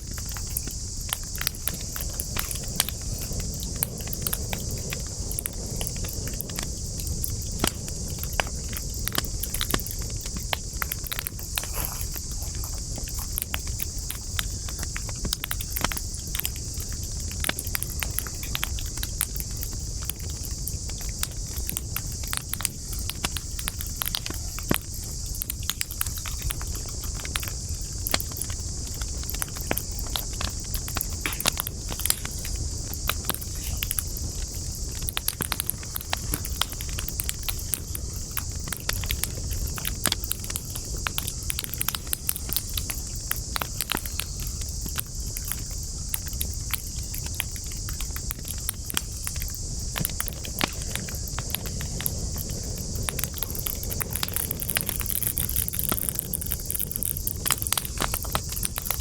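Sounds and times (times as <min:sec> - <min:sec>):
high-pitched hiss: 0:00.0 - 0:59.0
wood fire crackling and popping: 0:00.0 - 0:59.0.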